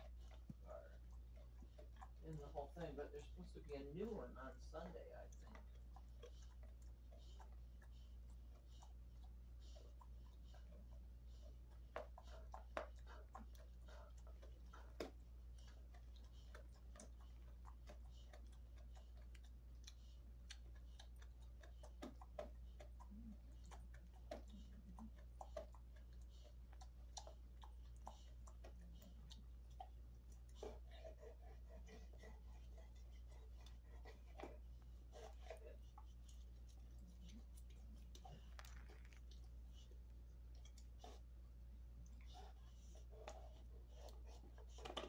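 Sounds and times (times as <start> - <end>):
dog chewing: 0.0 - 45.0.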